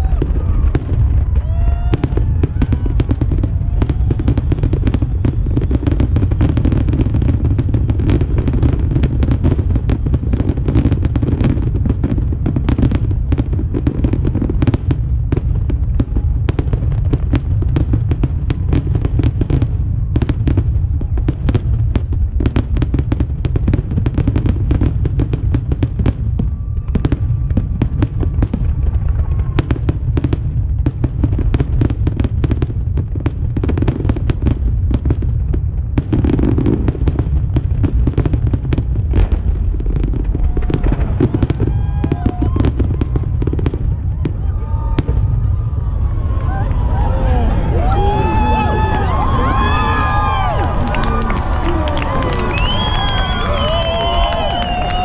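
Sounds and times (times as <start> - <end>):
fireworks cracking and banging: 0.0 - 55.0.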